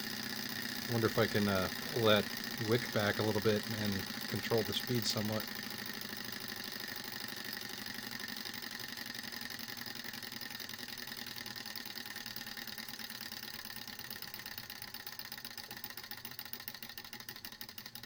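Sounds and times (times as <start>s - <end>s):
stirling engine rattle: 0.0s - 18.0s.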